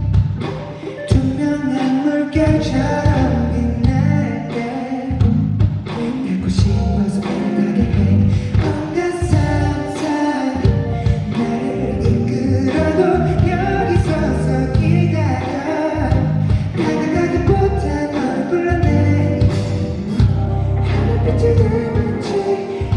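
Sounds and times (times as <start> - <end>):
loud band accompaniment with beat: 0.0 - 22.9
man singing: 0.6 - 22.9.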